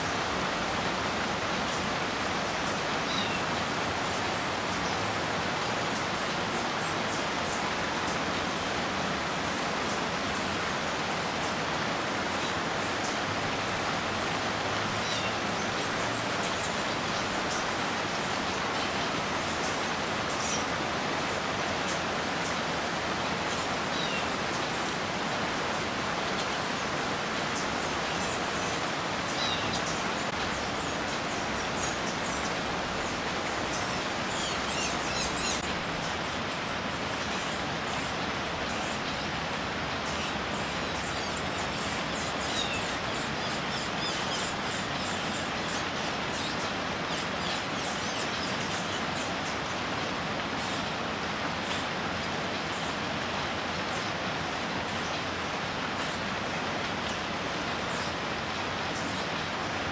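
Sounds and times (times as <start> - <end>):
small birds chirping: 0.1 - 53.2.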